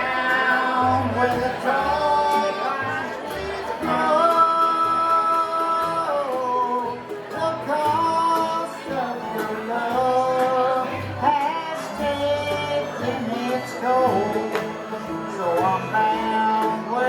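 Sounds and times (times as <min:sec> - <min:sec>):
bluegrass band playing: 0:00.0 - 0:17.0
plucked acoustic strings: 0:00.0 - 0:17.0.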